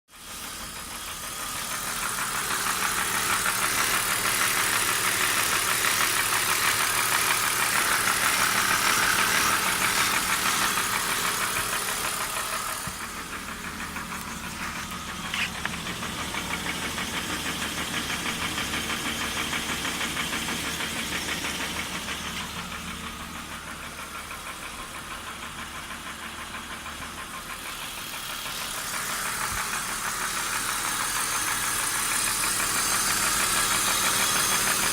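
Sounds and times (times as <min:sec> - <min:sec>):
car engine idling with knocking: 0:00.1 - 0:34.9.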